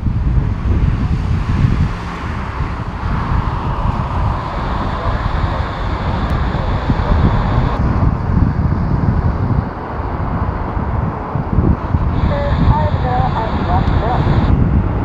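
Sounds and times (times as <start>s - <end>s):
distant jet engines roaring: 0.0s - 15.0s
gusty wind buffeting microphone: 0.0s - 15.0s.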